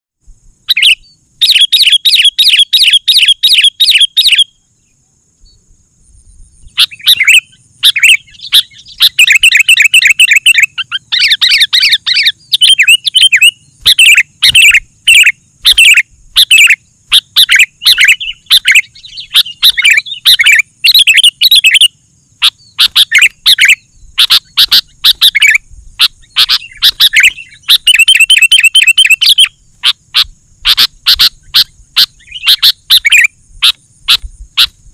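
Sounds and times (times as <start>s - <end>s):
bird singing bubbly chirps: 0.7s - 4.6s, 6.6s - 29.7s, 30.6s - 34.7s.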